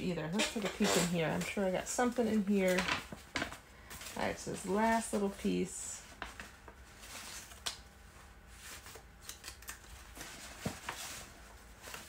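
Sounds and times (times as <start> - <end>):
paper rustling and shuffling: 0.3 - 12.0.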